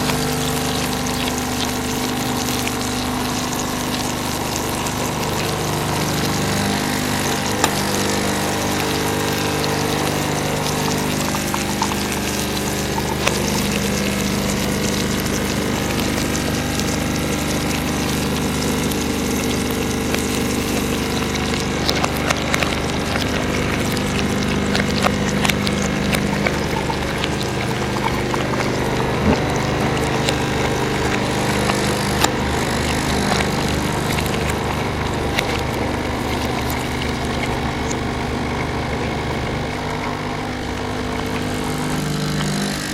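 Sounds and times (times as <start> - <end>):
fish sizzling in hot oil: 0.0 - 42.9
steady mechanical hum: 0.0 - 42.9.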